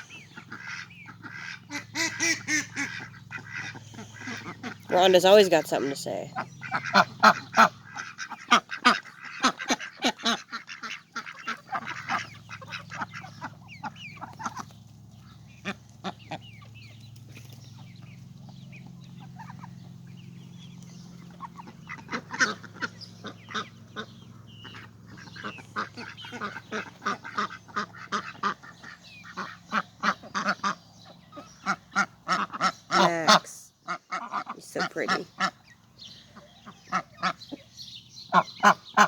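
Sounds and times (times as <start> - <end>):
ducks quacking: 0.0 - 39.0.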